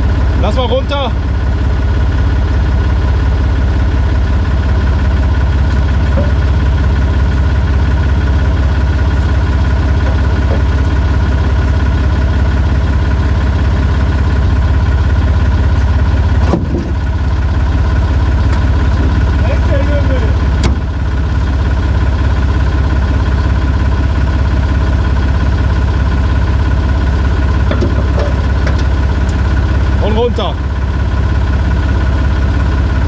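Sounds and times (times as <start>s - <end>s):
engine idling with low hum: 0.0s - 33.0s.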